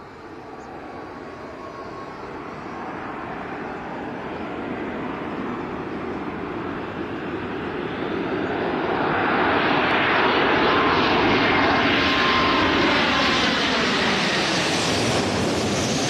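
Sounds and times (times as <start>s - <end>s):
faint jet engine whine: 0.0s - 16.0s
jet engine rush overhead: 0.0s - 16.0s.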